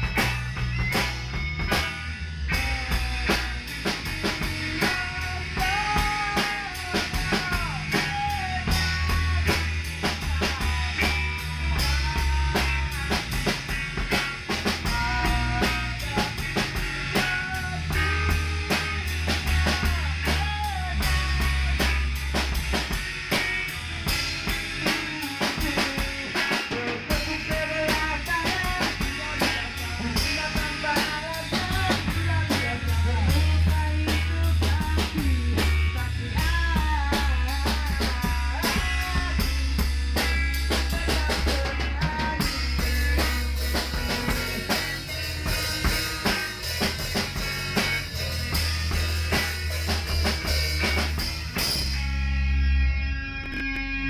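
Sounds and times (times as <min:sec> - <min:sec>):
drum kit beat: 0:00.0 - 0:52.7
bass guitar: 0:00.0 - 0:54.0
electric guitars: 0:00.0 - 0:54.0.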